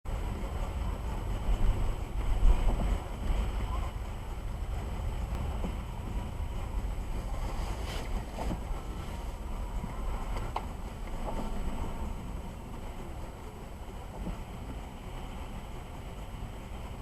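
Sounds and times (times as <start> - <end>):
tyres rumbling on wet pavement: 0.1 - 17.0.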